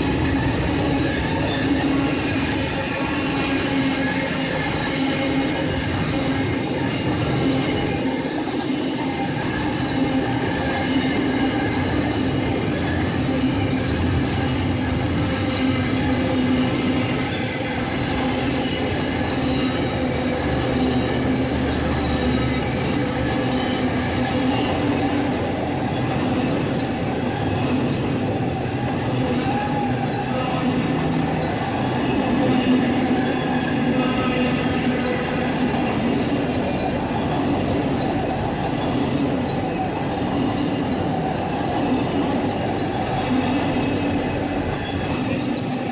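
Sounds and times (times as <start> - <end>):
freight train rolling on rails: 0.0 - 45.9.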